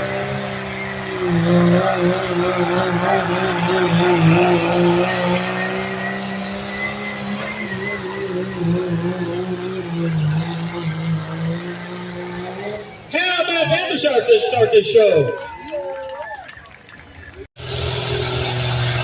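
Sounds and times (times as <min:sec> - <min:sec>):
engine at high revs: 0:00.0 - 0:14.2, 0:17.5 - 0:19.0.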